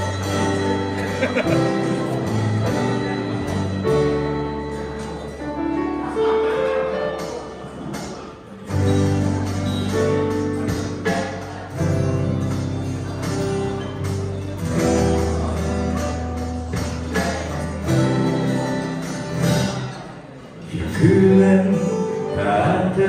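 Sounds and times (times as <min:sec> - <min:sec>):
keyboard chords: 0:00.0 - 0:23.0
strummed acoustic guitars: 0:00.0 - 0:23.0.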